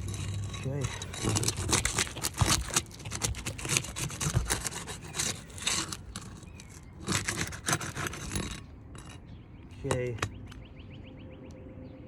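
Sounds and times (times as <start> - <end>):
pry bar scraping shingles: 0.0 - 10.7
shingle seal clicks: 0.0 - 10.7.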